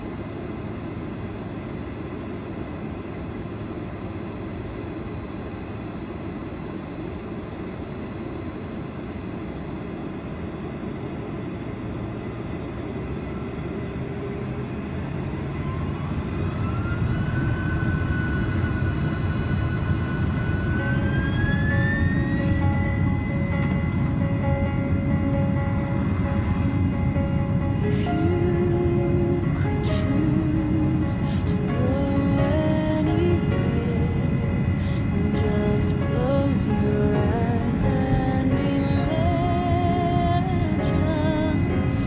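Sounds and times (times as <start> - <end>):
jet engine whine spooling up: 0.0 - 42.0
jet engines rumbling in cabin: 0.0 - 42.0.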